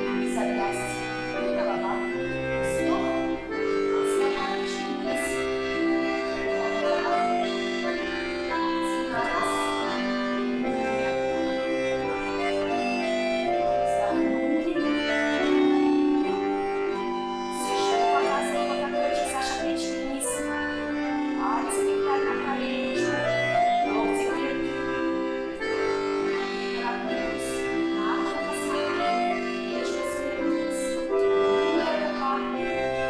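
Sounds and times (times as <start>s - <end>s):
accordion folk-dance tune: 0.0s - 33.0s.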